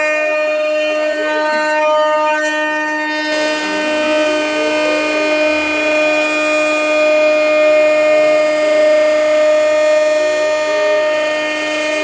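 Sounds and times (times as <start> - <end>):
cnc router spindle whining: 0.0 - 12.0.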